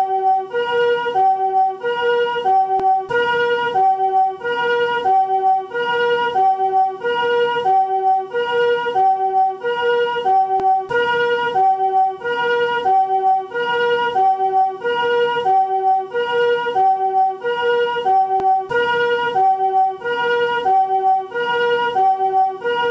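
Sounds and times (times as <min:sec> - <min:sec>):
ambulance two-tone siren: 0:00.0 - 0:22.9.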